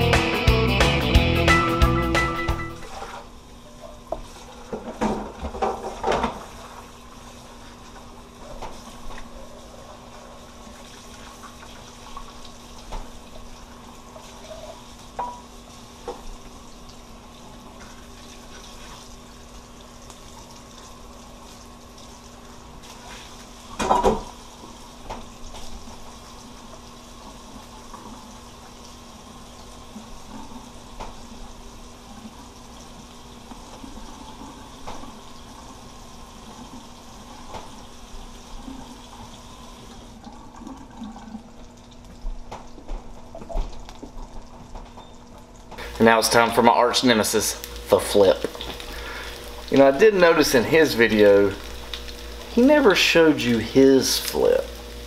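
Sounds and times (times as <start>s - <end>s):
food sizzling in oil: 0.0s - 40.2s, 45.8s - 55.0s.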